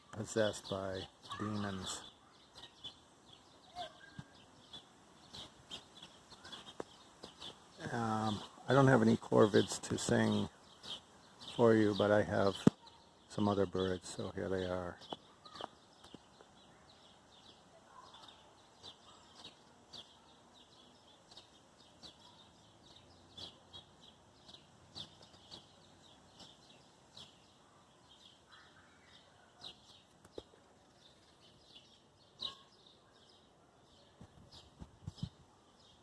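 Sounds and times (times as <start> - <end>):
small songbirds chirping: 0.0 - 36.0.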